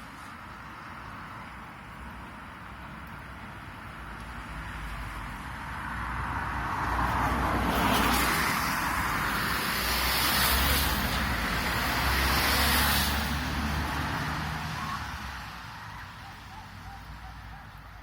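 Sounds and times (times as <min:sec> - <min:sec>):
tyres hissing on wet road: 0:00.0 - 0:16.5.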